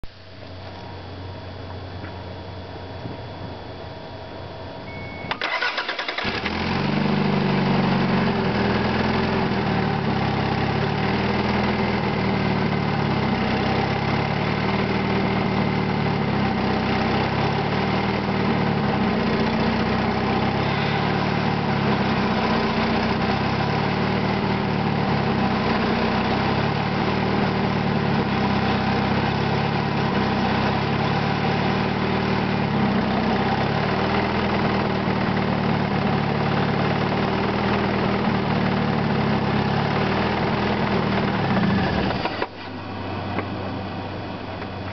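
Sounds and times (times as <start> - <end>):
car engine starting and idling: 4.9 - 44.9.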